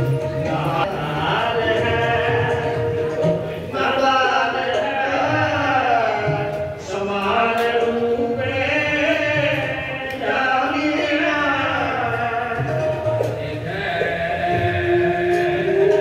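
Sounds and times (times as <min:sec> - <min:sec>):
person singing long notes: 0:00.0 - 0:16.0
sustained musical accompaniment: 0:00.0 - 0:16.0.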